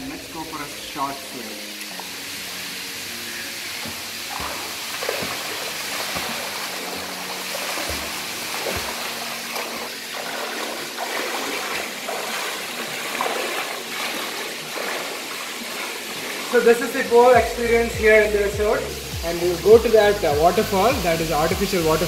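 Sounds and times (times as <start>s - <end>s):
faint background music: 0.0s - 22.0s
pool water splashing: 0.0s - 22.0s.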